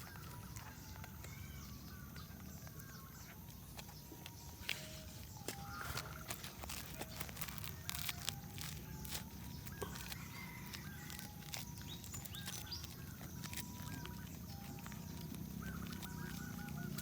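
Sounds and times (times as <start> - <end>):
birds calling: 0.0 - 17.0
dog chewing: 0.0 - 17.0.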